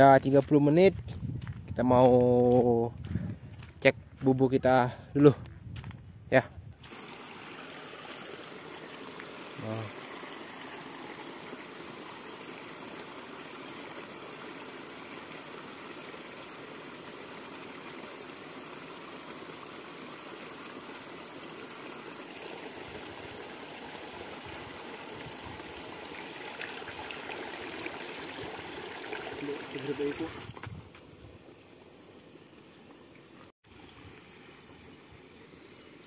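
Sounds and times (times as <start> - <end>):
stream water flowing: 6.8 - 36.0.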